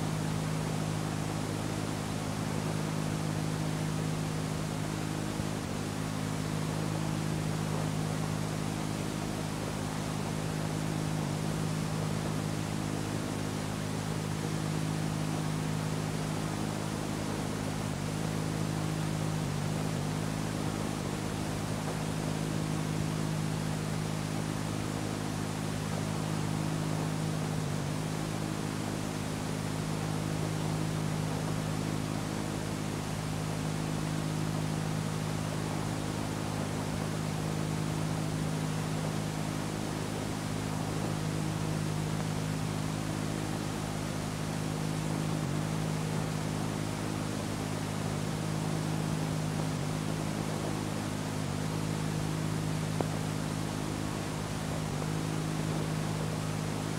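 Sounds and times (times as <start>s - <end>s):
low electrical hum: 0.0s - 56.9s
tape hiss: 0.0s - 56.9s.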